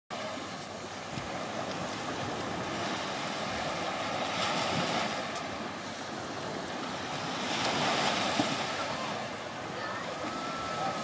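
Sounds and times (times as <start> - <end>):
surf washing on beach: 0.1 - 11.0
wind on microphone: 0.2 - 11.0.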